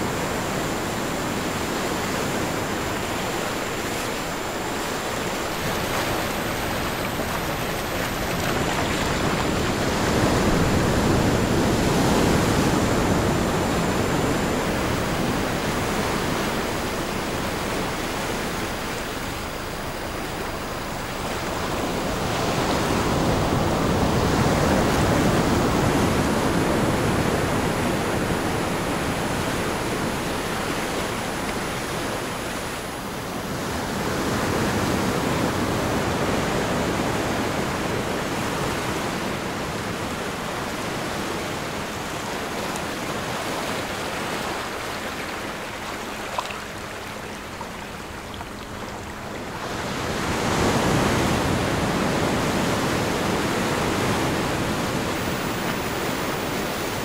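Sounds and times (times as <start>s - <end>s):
ocean surf washing ashore: 0.0s - 57.0s.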